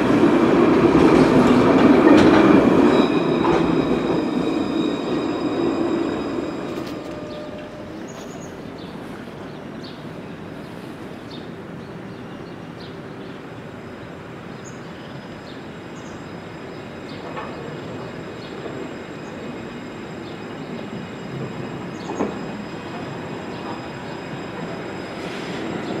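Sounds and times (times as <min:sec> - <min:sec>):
city street noise: 0:00.0 - 0:26.0.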